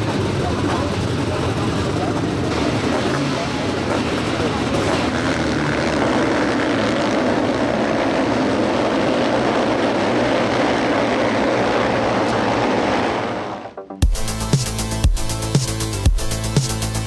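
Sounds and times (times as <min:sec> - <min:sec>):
many engines at full throttle: 0:00.0 - 0:17.0.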